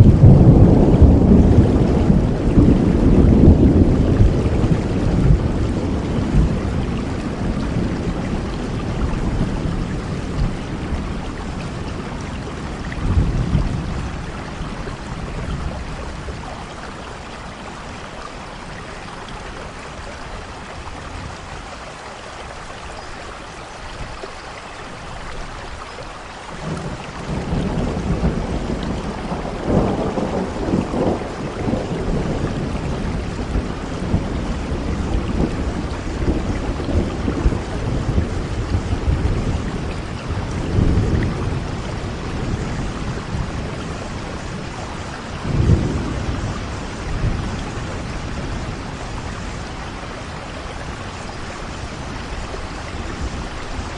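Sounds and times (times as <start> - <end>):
rolling thunder: 0.0 - 18.0, 26.6 - 53.9
heavy rain: 0.0 - 53.9.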